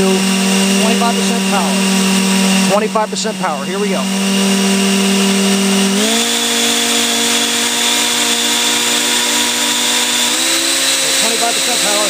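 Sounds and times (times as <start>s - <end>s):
electric ducted fans whining: 0.0s - 12.0s.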